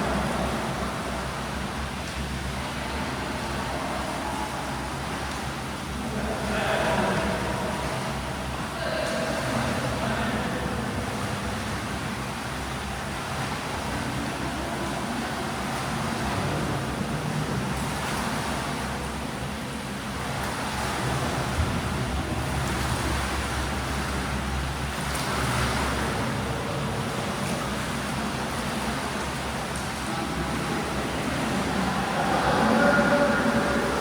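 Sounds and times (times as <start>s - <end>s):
indoor pool rumble: 0.0s - 34.0s
water noise: 0.0s - 34.0s.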